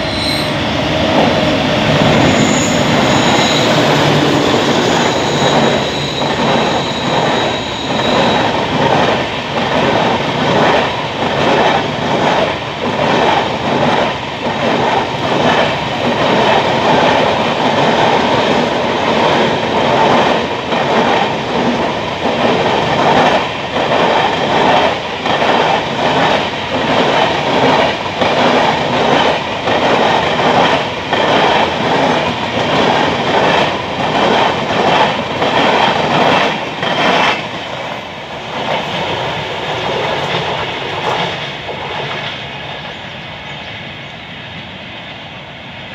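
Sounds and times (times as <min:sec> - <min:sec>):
train wheels clickety-clack: 0:00.7 - 0:43.9.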